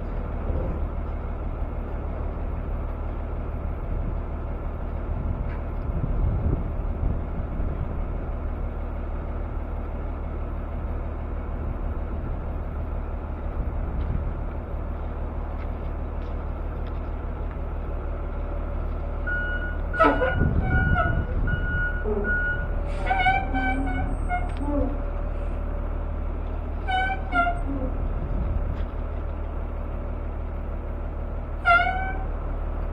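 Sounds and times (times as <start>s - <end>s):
truck engine drone: 0.0s - 32.9s.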